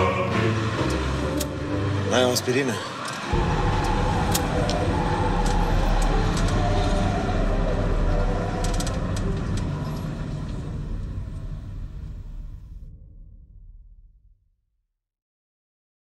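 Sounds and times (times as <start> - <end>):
engine and tyre rumble: 0.0 - 12.9.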